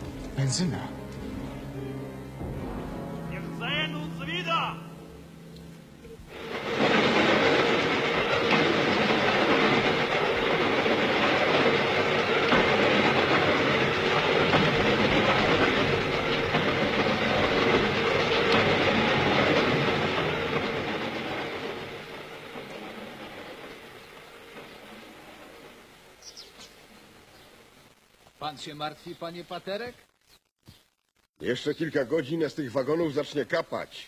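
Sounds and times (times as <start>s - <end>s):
train running on rails: 0.0s - 27.8s.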